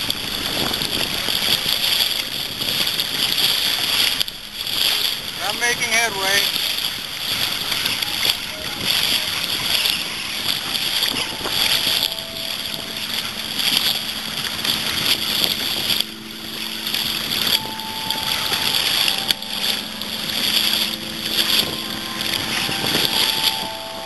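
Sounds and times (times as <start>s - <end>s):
paddle strokes splashing: 0.0s - 24.0s
wind on microphone: 0.0s - 24.0s.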